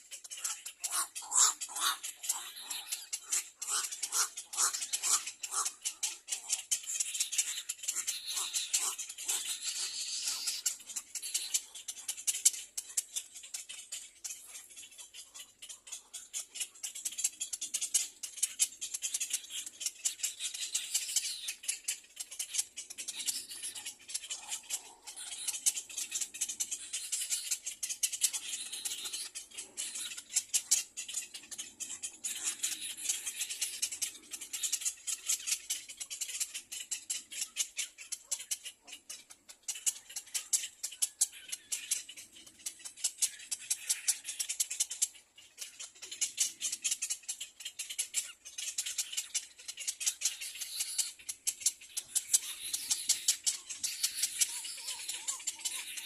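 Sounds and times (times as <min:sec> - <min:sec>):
nestlings raspy begging calls: 0:00.0 - 0:56.0.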